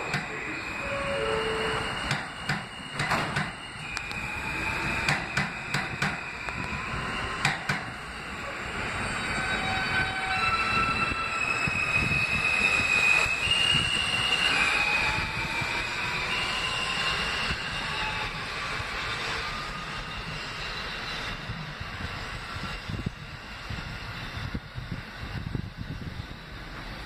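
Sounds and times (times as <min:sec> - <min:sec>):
subway train motors whining: 0:00.0 - 0:27.0.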